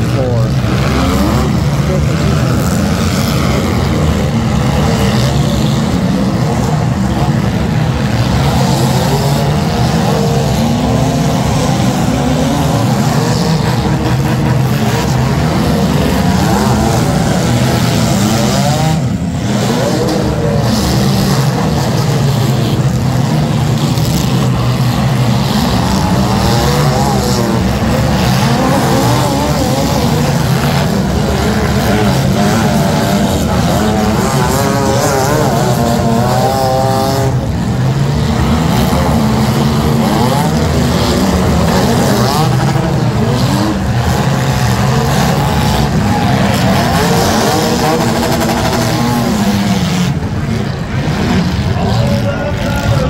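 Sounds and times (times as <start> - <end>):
car engines revving hard: 0.0 - 53.0.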